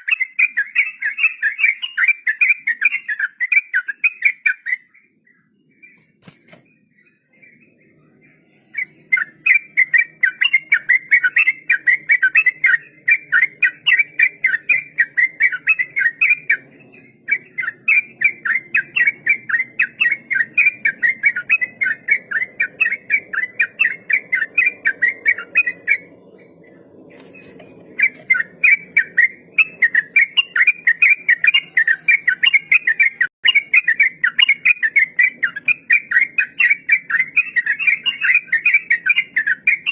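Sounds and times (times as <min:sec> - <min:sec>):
bird singing rapid whistled notes: 0:00.0 - 0:39.9.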